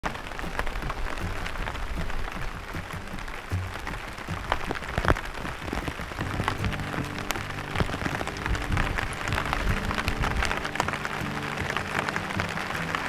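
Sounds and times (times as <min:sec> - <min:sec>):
quiet background music: 0:00.0 - 0:13.0
rain falling: 0:00.0 - 0:13.0.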